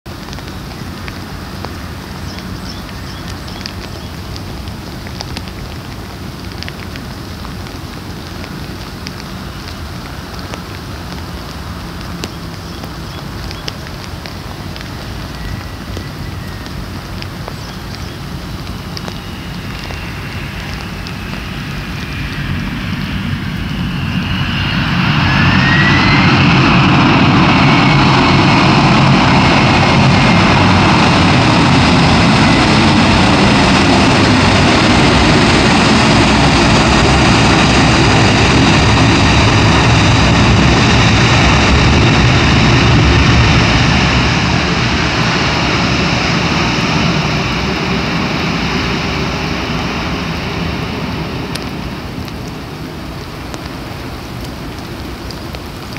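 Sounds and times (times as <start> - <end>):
jet engines in reverse thrust: 0.1 - 55.9.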